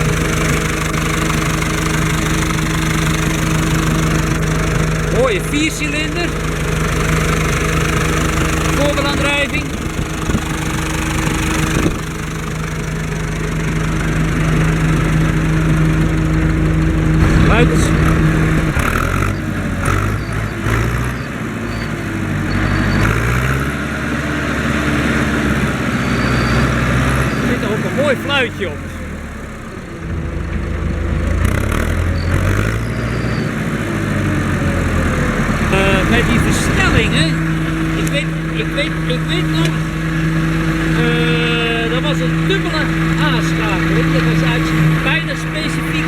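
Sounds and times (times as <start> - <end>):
tractor diesel engine idling: 0.0 - 46.0.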